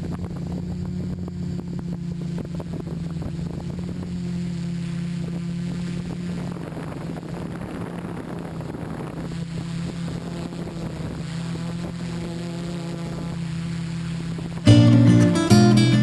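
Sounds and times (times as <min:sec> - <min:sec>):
multicopter motors droning: 0:00.0 - 0:15.6
wind noise on microphone: 0:00.0 - 0:16.0.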